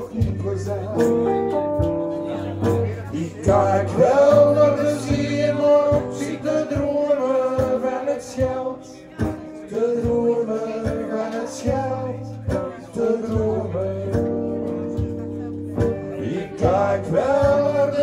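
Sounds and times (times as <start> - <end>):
acoustic guitars strumming: 0.0 - 18.0.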